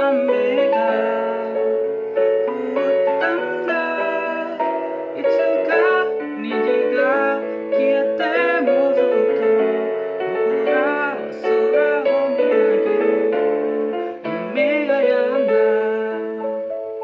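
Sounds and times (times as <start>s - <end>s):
person singing: 0.0s - 17.0s
piano accompaniment: 0.0s - 17.0s.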